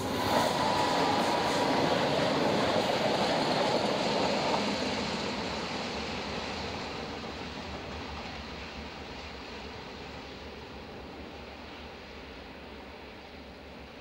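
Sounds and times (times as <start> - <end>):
diesel locomotive engine: 0.0 - 14.0
train wheels on rails: 0.0 - 14.0.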